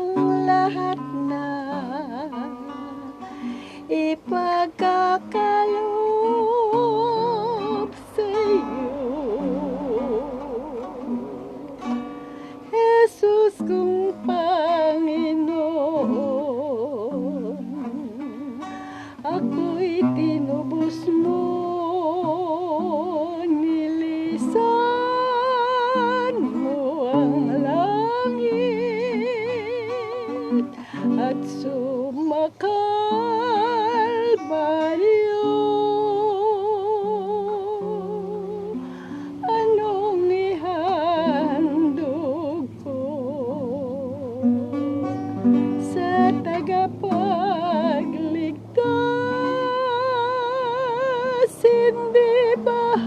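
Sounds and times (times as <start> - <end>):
acoustic guitar accompaniment: 0.0 - 53.0
person singing with vibrato: 0.0 - 53.0.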